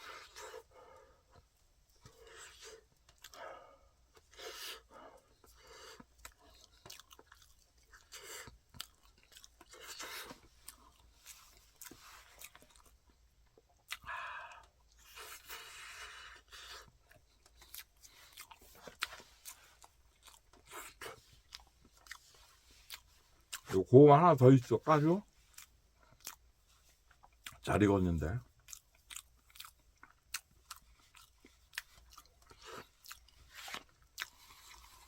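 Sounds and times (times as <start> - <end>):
person chewing food: 0.0 - 23.8, 25.4 - 27.7, 28.4 - 35.0.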